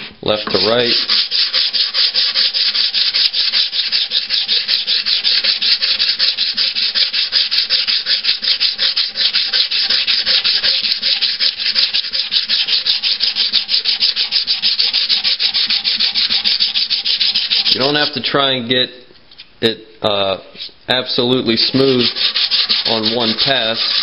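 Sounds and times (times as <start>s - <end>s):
sandpaper rubbing by hand: 0.0s - 18.2s, 21.6s - 24.0s.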